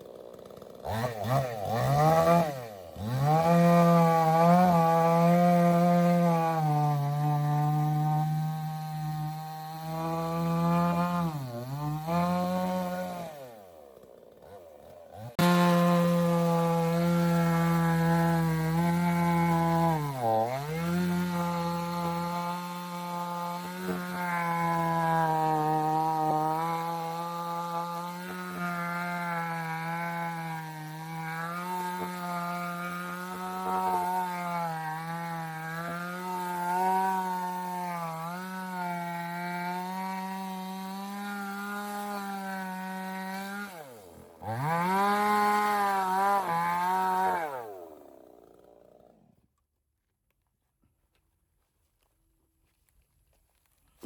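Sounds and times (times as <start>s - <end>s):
chainsaw cutting wood: 0.0s - 49.7s.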